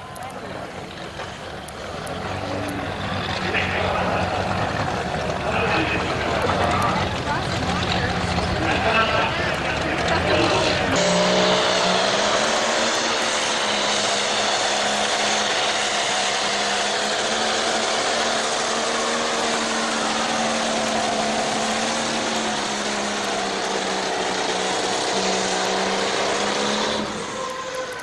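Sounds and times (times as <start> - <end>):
tractor engine droning under load: 0.0 - 28.0.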